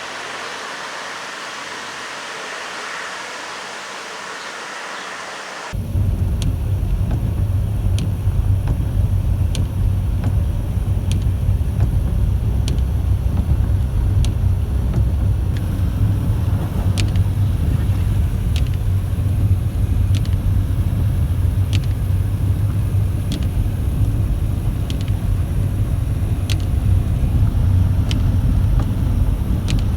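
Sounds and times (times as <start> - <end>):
car rumbling on the move: 0.0 - 29.9.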